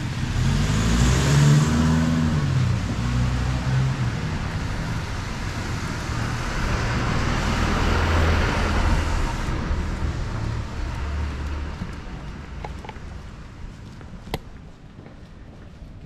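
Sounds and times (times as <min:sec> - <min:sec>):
car passing on wet street: 0:00.0 - 0:14.2.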